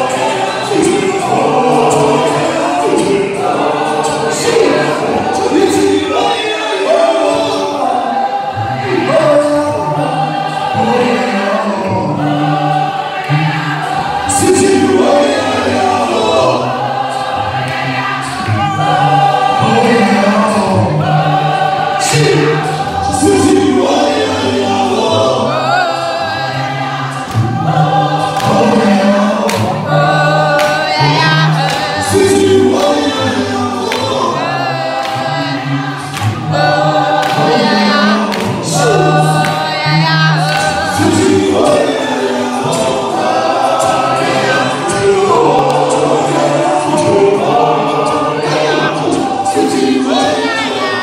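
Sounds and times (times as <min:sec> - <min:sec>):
male choir singing: 0:00.0 - 0:51.0.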